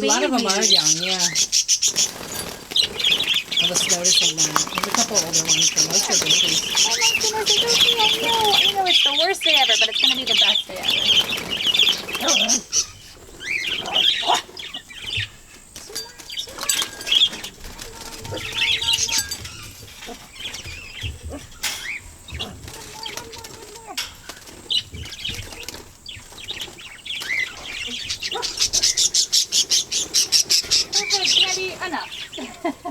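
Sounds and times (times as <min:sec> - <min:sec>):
parakeets chirping: 0:00.0 - 0:32.9
wings flapping: 0:00.0 - 0:32.9.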